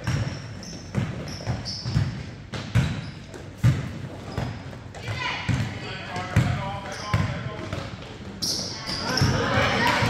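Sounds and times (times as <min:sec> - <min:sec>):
basketball dribbling on court: 0:00.0 - 0:09.4
sneaker squeaks: 0:00.0 - 0:10.0.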